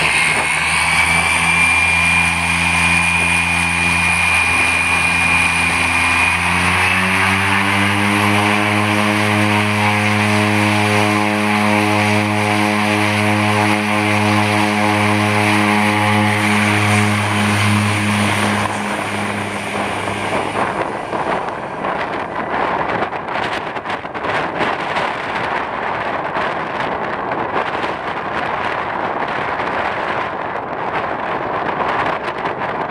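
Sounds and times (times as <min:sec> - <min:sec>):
turboprop propeller drone: 0:00.0 - 0:32.9
wind buffeting microphone: 0:00.0 - 0:32.9.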